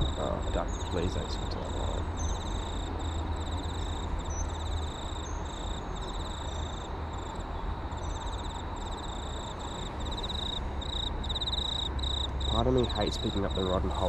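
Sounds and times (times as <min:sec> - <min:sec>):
insects trilling: 0:00.0 - 0:14.0
steady low rumble: 0:00.0 - 0:14.0.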